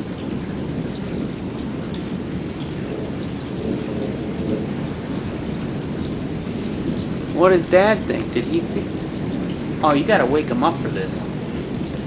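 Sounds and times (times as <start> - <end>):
low rolling thunder: 0.0 - 12.0
rain pattering: 0.0 - 12.0.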